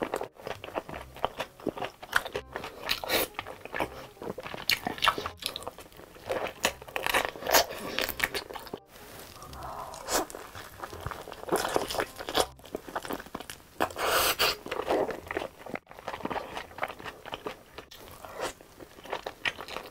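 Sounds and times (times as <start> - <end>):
crunching and chewing fried chicken: 0.0 - 19.9.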